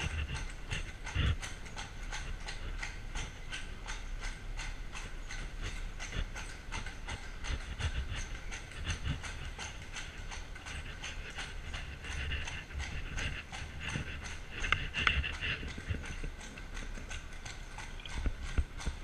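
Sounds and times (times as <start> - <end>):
carriage wheels rattling over stones: 0.0 - 19.0
horse hooves clip-clopping on stone: 0.0 - 19.0.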